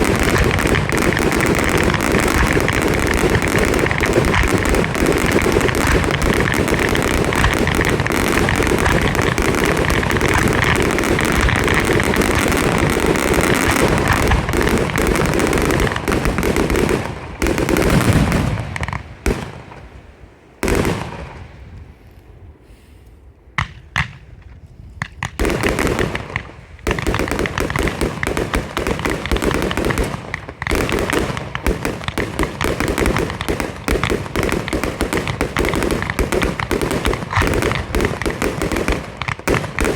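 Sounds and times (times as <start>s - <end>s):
fireworks shots and crackling: 0.0s - 21.9s, 23.6s - 39.9s.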